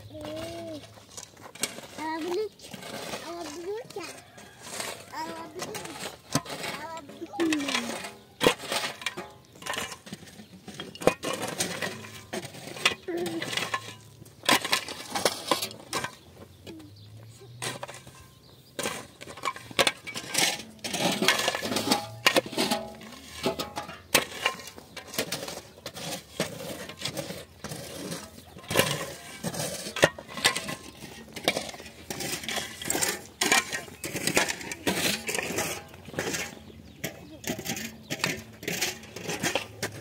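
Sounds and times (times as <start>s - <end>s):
shovel striking and scraping soil: 0.0s - 40.0s.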